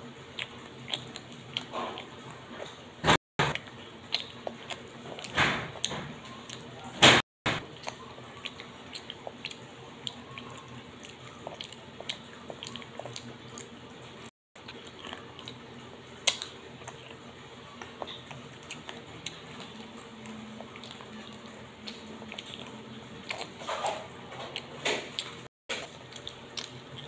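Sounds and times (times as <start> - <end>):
chewing and crunching peanuts: 0.0 - 2.8, 3.4 - 6.9, 7.6 - 13.9, 14.6 - 27.0.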